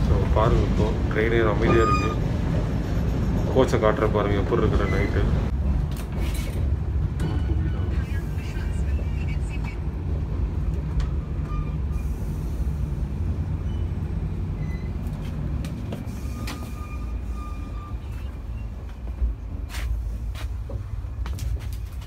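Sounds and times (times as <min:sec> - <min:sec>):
train rumble inside coach: 0:00.0 - 0:22.0.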